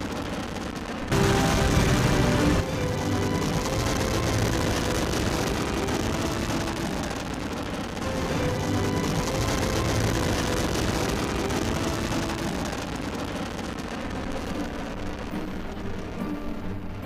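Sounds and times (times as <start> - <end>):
rocket engines roaring: 0.0 - 17.0.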